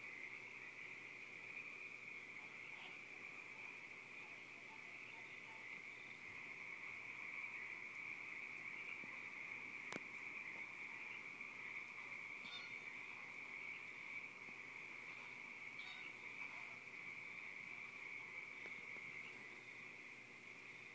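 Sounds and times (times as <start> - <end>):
crickets trilling: 0.0 - 20.9
faint chirp: 0.0 - 20.9.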